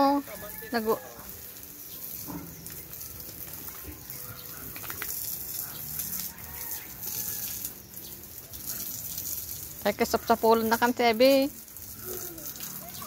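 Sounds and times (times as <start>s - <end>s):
water spraying and splashing: 0.0s - 13.0s.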